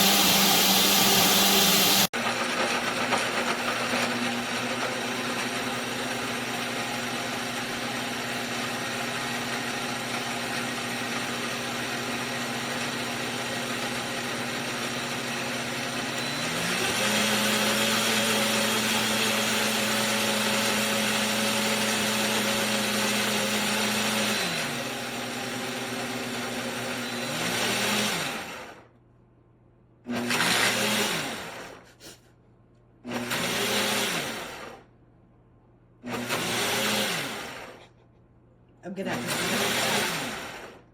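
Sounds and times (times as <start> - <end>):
blender motor running: 0.0 - 28.9, 30.1 - 31.8, 33.0 - 34.9, 36.0 - 37.9, 38.9 - 40.9.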